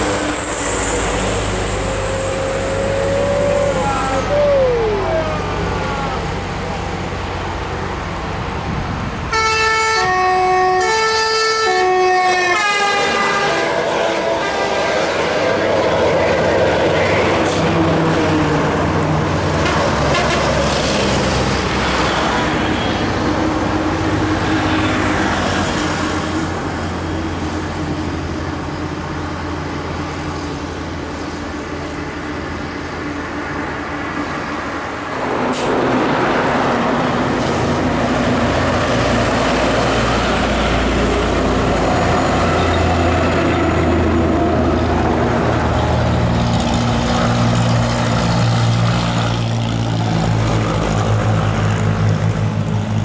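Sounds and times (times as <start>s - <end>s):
diesel trucks passing: 0.0s - 53.0s.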